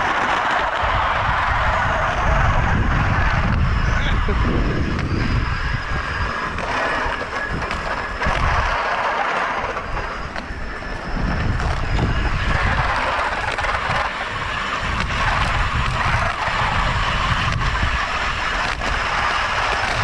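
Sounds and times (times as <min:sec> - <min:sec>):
wind buffeting microphone: 0:00.0 - 0:20.0
zipline trolley whirring on cable: 0:00.0 - 0:20.0.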